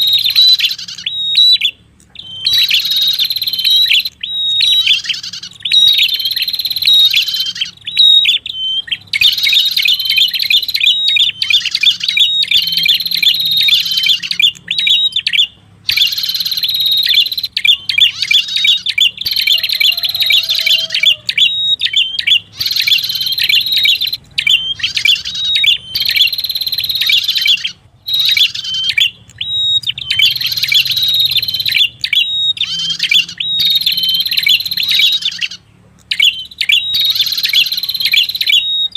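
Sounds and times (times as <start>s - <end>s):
bird trilling high chirps: 0.0s - 38.9s.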